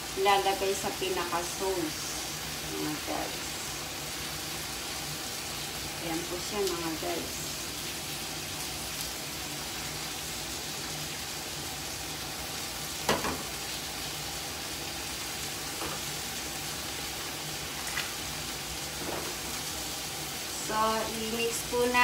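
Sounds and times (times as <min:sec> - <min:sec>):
steak sizzling in a pan: 0:00.0 - 0:22.0.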